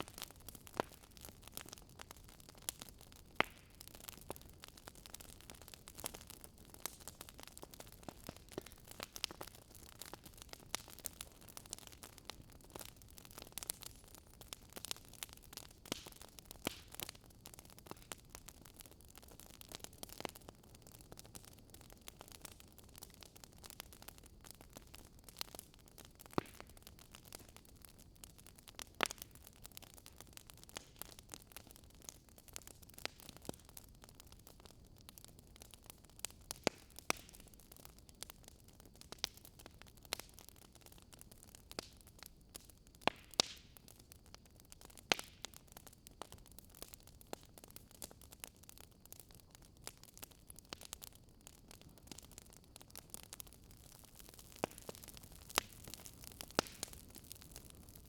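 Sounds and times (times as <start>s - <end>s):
crackles and pops of burning logs: 0.0s - 58.0s
wood fire hissing: 0.0s - 58.0s.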